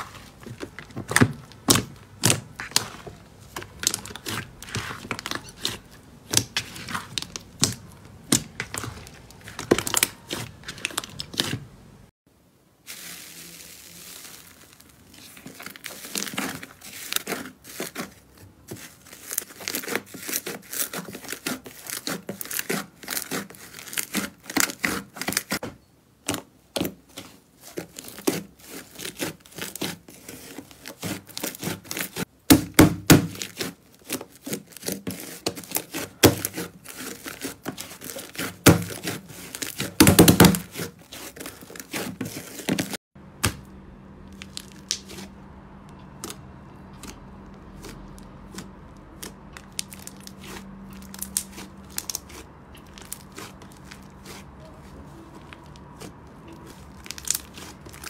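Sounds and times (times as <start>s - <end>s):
foam slime crackling and popping: 0.0s - 11.6s, 12.8s - 25.6s, 26.3s - 43.0s, 44.3s - 45.4s, 46.2s - 58.0s.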